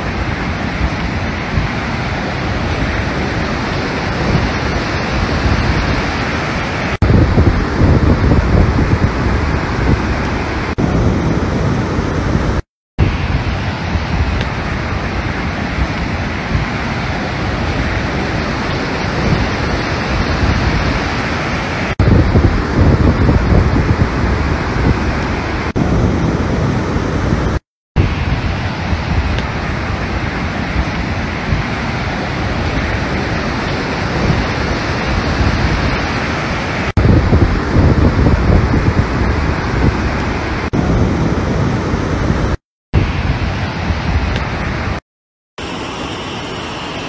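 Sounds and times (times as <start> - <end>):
rough rushing water: 0.0 - 45.0, 45.6 - 47.0
storm wind: 0.0 - 45.0
wind buffeting microphone: 0.0 - 45.0.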